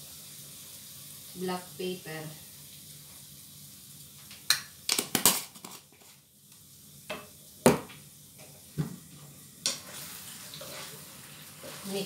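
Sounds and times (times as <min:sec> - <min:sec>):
faint sizzle of frying: 0:00.0 - 0:12.0.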